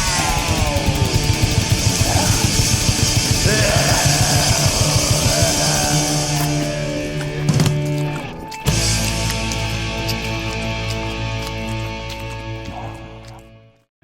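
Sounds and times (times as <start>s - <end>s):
fast rock music: 0.0s - 12.4s.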